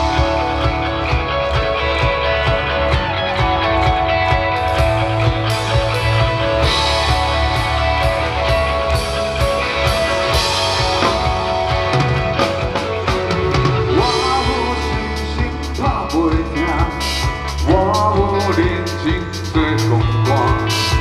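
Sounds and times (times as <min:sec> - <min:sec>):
bass guitar: 0:00.0 - 0:21.0
drums: 0:00.0 - 0:21.0
lead guitar line bending: 0:00.0 - 0:21.0.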